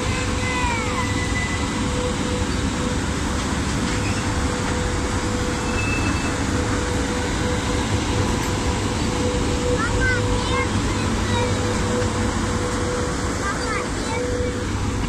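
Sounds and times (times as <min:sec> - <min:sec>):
locomotive mechanical noise: 0:00.0 - 0:15.0.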